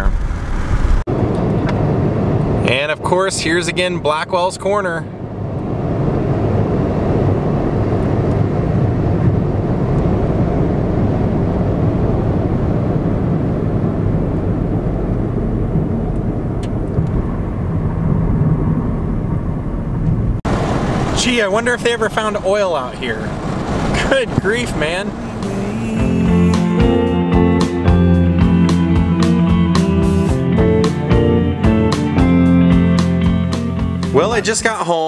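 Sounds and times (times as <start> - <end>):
car cabin highway drone: 0.0 - 35.0.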